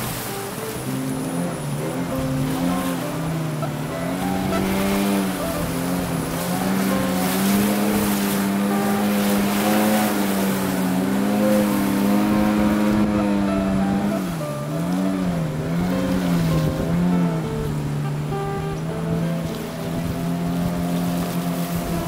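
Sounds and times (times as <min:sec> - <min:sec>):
outboard motor running: 0:00.0 - 0:22.0
river rapids rushing: 0:00.0 - 0:22.0.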